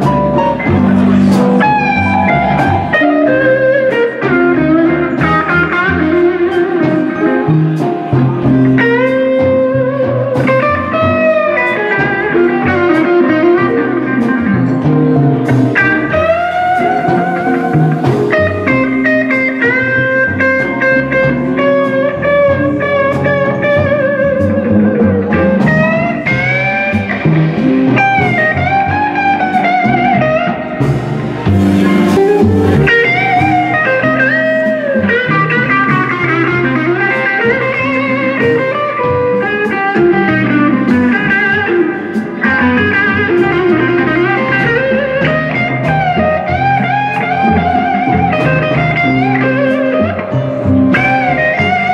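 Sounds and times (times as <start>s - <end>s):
band playing: 0.0s - 51.9s
electric guitar solo: 0.0s - 51.9s.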